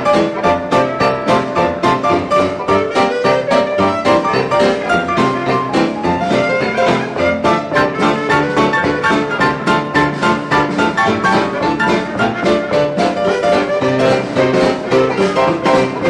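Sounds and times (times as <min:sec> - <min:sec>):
jazz dance orchestra playing: 0:00.0 - 0:16.0
piano: 0:00.0 - 0:16.0.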